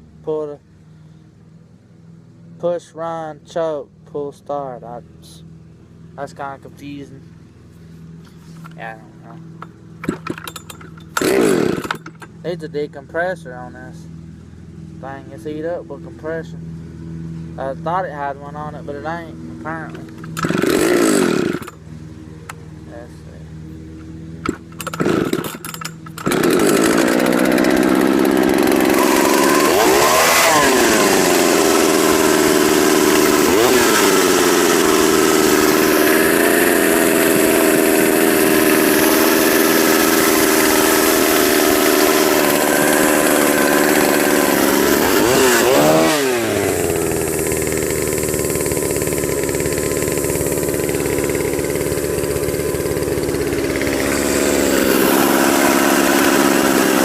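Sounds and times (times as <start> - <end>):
chainsaw starting and running: 7.8 - 12.6, 14.2 - 57.0.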